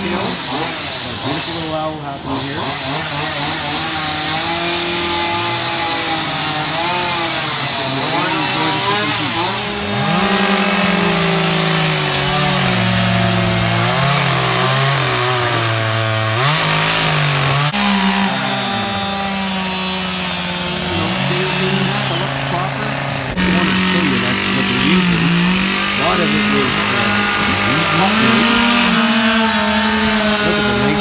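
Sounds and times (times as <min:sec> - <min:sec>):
chainsaws carving wood: 0:00.0 - 0:31.0.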